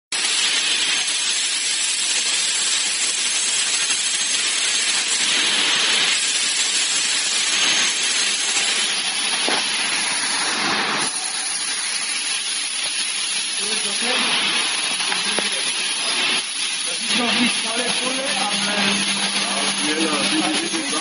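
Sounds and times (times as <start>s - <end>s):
machining centre hissing: 0.2s - 21.0s.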